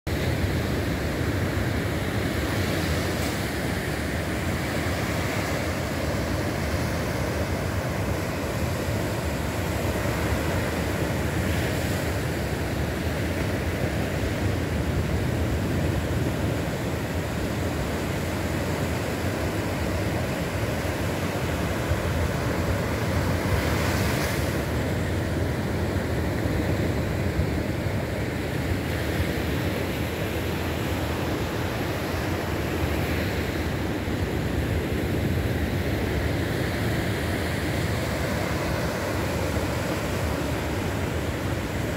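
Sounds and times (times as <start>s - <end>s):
ocean waves breaking on beach: 0.1s - 41.9s.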